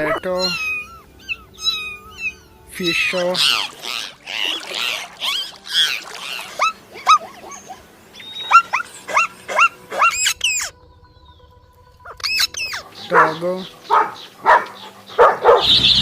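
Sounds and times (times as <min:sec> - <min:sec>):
high squeaking animal calls: 0:00.0 - 0:11.4, 0:12.0 - 0:16.0.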